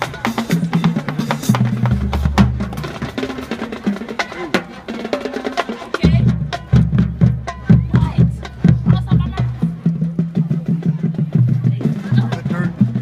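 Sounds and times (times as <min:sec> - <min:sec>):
marching bass drums: 0:00.0 - 0:13.0
rapid snare drum strokes: 0:00.0 - 0:13.0.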